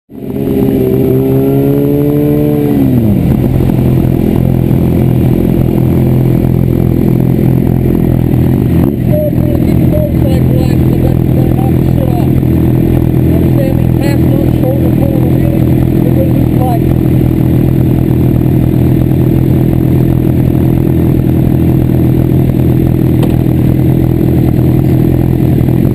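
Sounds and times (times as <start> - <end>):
motorcycle engine idling: 2.9 - 25.9.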